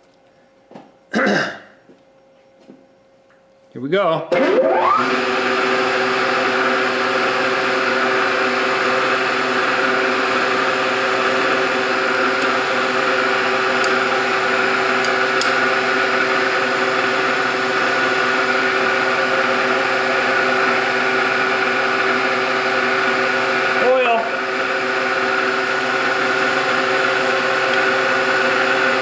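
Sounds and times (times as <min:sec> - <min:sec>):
machine spindle whining: 0:04.3 - 0:29.0.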